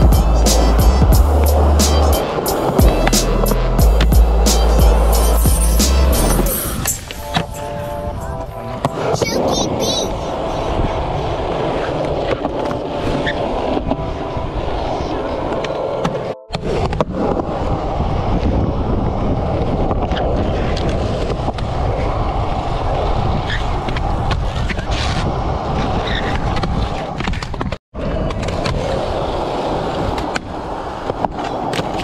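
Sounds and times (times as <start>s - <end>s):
skateboard wheels rolling on concrete: 0.0s - 32.0s.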